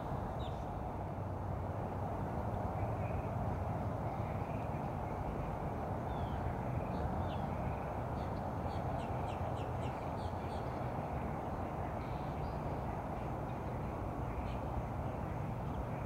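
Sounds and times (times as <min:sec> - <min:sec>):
steady low background noise: 0:00.0 - 0:16.0.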